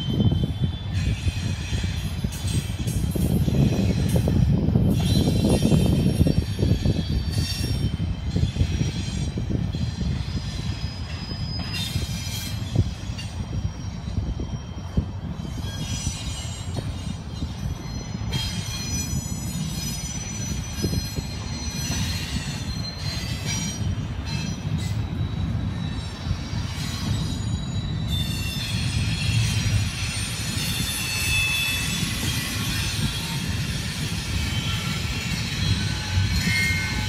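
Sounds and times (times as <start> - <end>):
steel wheel squeal: 0.0 - 37.0
train wheels rumbling on rail: 0.0 - 37.0.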